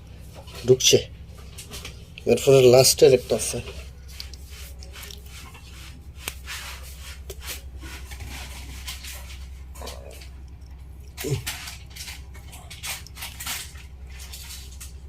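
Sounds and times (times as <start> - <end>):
steady low hum: 0.0 - 15.0
clicks and rustles of handling wires: 0.1 - 6.5, 7.2 - 15.0.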